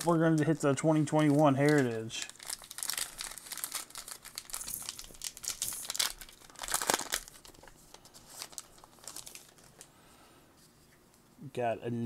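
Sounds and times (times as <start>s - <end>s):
card pack wrapper tearing: 0.0s - 9.9s.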